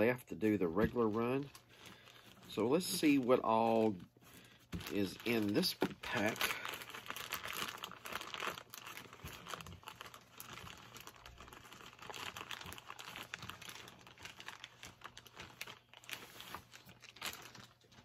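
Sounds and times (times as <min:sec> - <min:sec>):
plastic wrapping tearing and crinkling: 0:00.5 - 0:04.0, 0:04.6 - 0:18.0.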